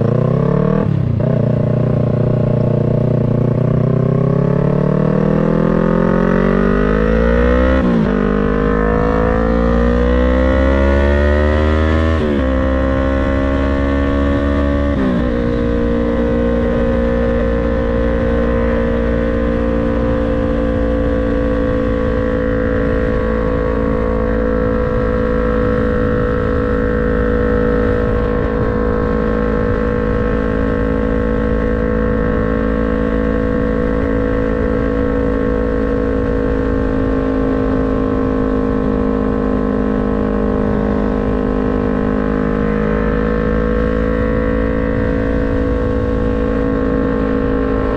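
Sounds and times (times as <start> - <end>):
motorcycle engine and exhaust: 0.0 - 47.9.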